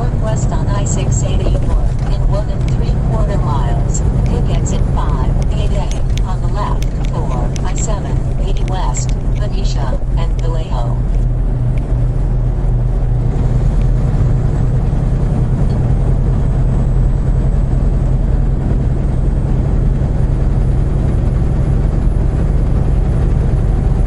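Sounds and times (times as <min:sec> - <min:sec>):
road noise: 0:00.0 - 0:24.0
truck diesel engine drone: 0:00.0 - 0:24.0.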